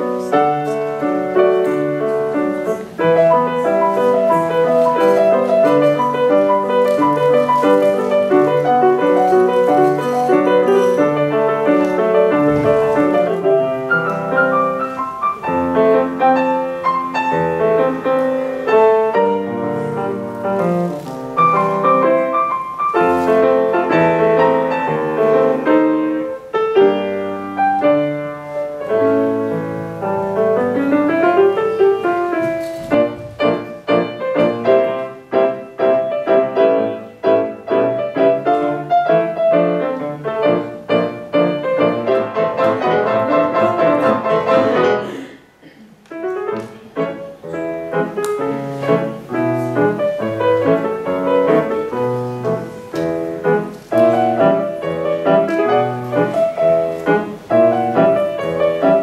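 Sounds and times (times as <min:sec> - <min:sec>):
grand piano playing classical piece: 0:00.0 - 0:59.0.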